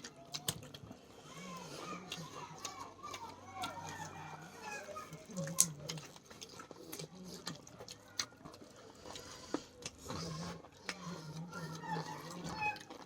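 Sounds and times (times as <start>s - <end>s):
chewing and crunching food: 0.0s - 13.0s
low background murmur: 0.0s - 13.0s.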